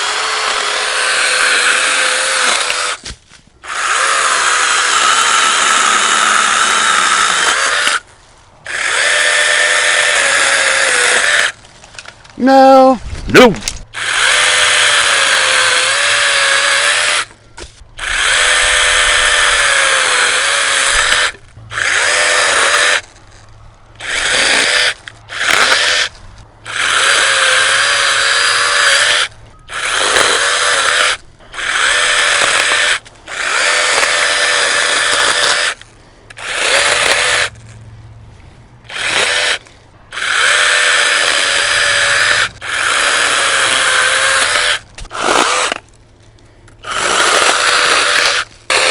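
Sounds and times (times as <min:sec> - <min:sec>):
mini chainsaw cutting branch: 0:00.0 - 0:08.0, 0:08.7 - 0:11.6, 0:12.4 - 0:17.4, 0:18.0 - 0:23.1, 0:24.0 - 0:26.1, 0:26.7 - 0:37.8, 0:38.9 - 0:45.9, 0:46.7 - 0:48.9.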